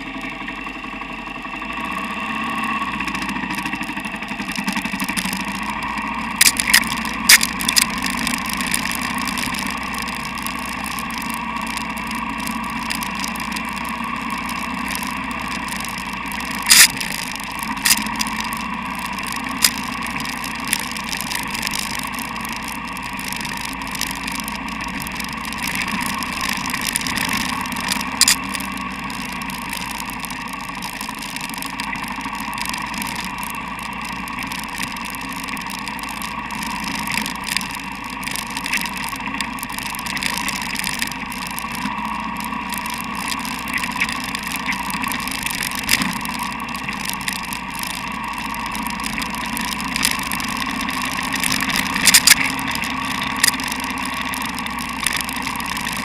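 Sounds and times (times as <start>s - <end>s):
motorcycle engine running: 0.0s - 56.0s
clicks and knocks from rough ground: 3.2s - 56.0s.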